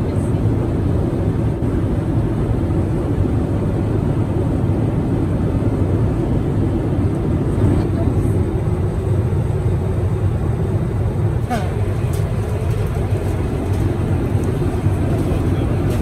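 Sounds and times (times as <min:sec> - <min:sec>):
airliner cabin roar: 0:00.0 - 0:16.0.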